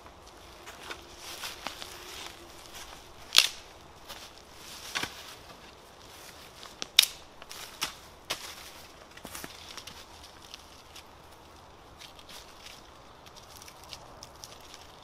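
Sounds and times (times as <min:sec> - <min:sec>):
dry branches cracking and snapping: 0:00.0 - 0:15.0
footsteps crunching in dry leaves: 0:00.0 - 0:15.0.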